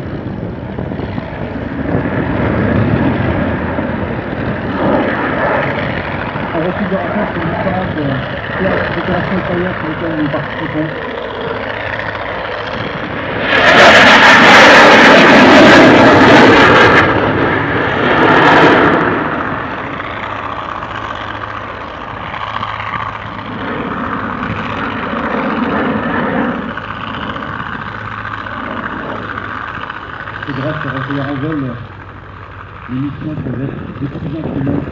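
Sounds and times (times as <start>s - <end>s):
fighter jet passing: 0.0s - 34.9s.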